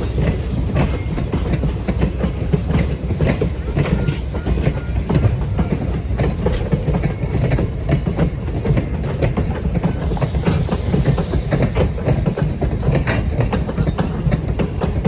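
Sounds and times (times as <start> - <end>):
train rumbling past: 0.0 - 15.0
wheels clacking over rail joints: 0.0 - 15.0.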